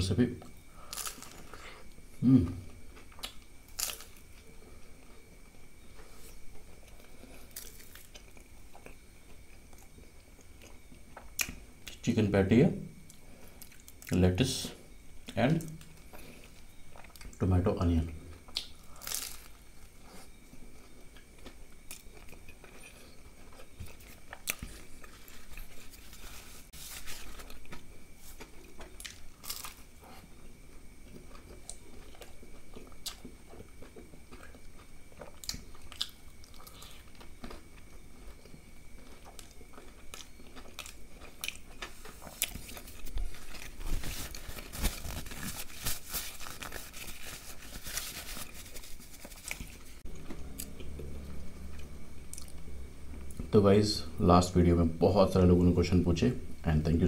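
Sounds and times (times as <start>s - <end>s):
crunching and chewing crispy food: 0.5s - 2.0s, 2.9s - 5.2s, 5.9s - 12.0s, 13.0s - 14.2s, 15.4s - 17.4s, 18.0s - 53.5s.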